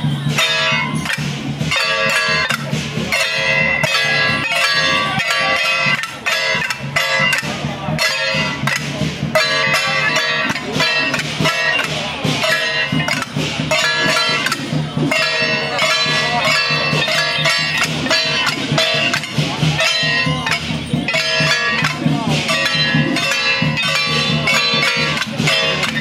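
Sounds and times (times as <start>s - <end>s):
metal percussion strikes: 0.0s - 26.0s.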